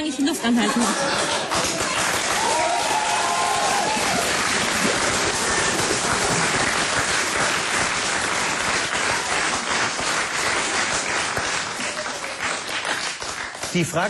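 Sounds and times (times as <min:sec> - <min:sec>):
audience applauding: 0:00.5 - 0:14.0.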